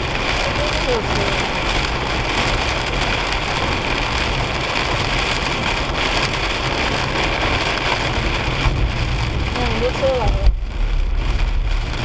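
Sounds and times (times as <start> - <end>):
rain hitting a car windshield: 0.0 - 12.0
tyre spray and road noise: 0.0 - 12.0.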